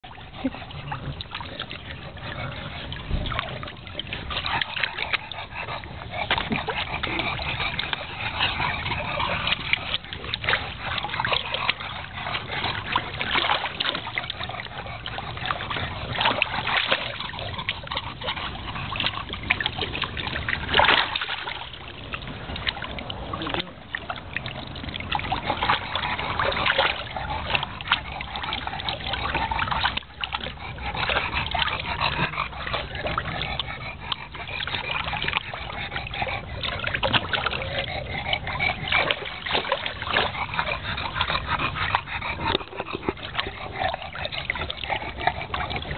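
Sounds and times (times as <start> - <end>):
dogs splashing in water: 0.0 - 45.9.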